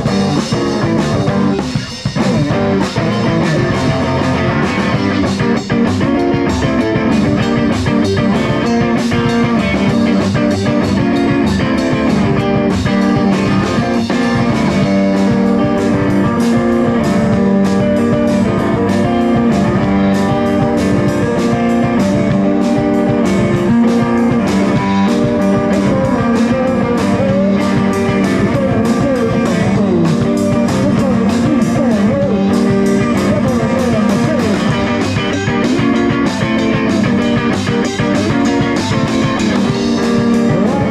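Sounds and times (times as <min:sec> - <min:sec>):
drum beat: 0:00.0 - 0:40.9
rock guitar: 0:00.0 - 0:40.9.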